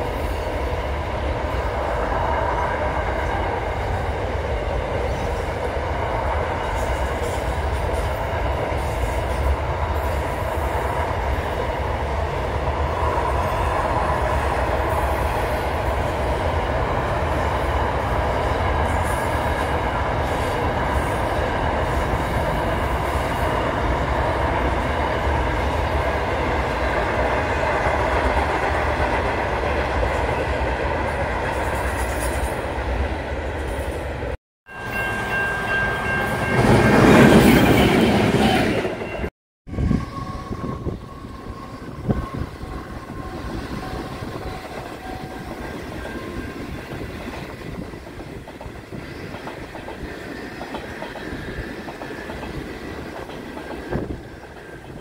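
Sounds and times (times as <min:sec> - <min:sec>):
freight train wagons rumbling: 0:00.0 - 0:55.0.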